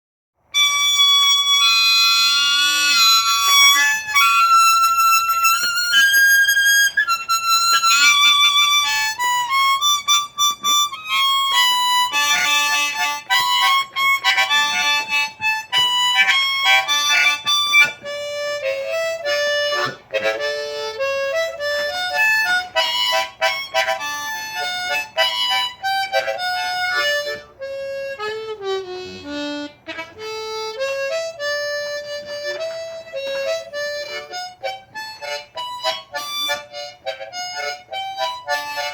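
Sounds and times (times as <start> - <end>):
harmonica playing blues: 0.5 - 38.9.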